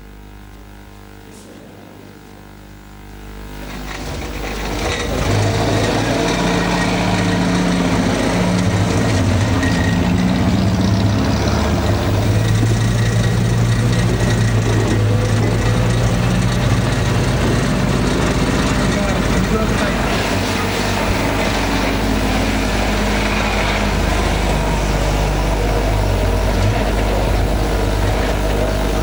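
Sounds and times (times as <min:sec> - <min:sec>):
car engine running: 0:02.4 - 0:29.0.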